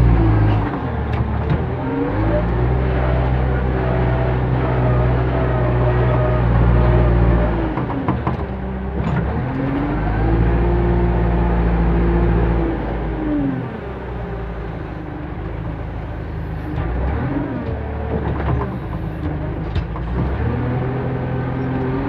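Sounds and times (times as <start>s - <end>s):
diesel engine under load: 0.0s - 22.0s.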